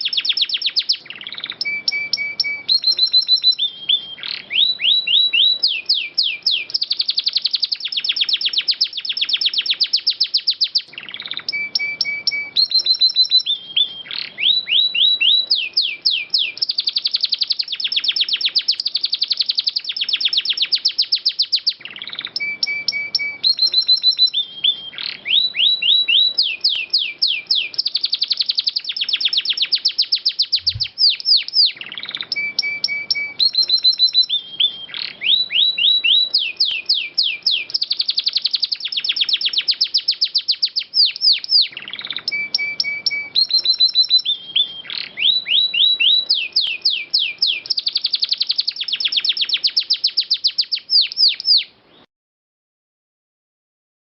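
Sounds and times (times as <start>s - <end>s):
canary singing trills: 0.0s - 52.1s.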